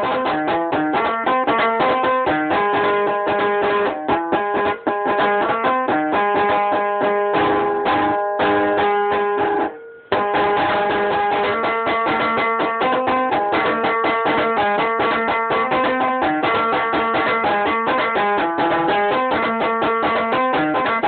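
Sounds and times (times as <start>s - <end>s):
plucked string lyre: 0.0s - 21.0s.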